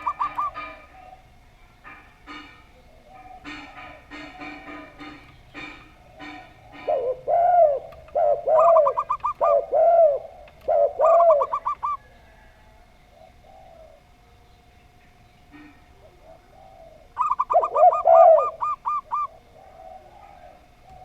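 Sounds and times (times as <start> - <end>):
doves cooing: 0.0 - 21.0.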